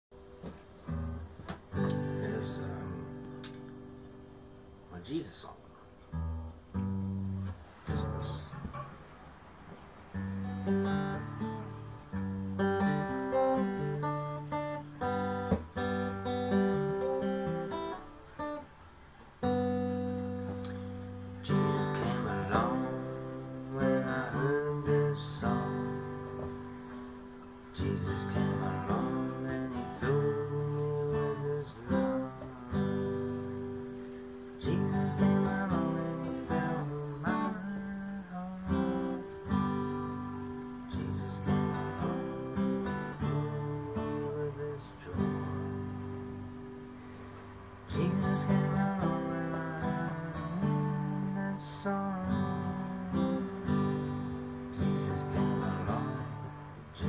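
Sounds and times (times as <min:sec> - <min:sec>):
acoustic guitar strumming: 0:00.1 - 0:57.0.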